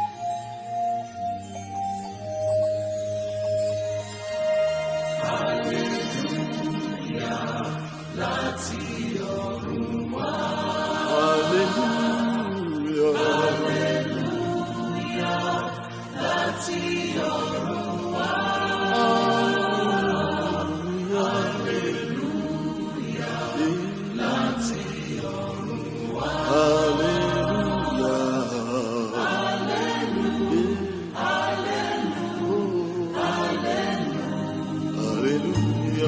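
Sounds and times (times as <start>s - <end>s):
choir singing: 4.0s - 36.0s.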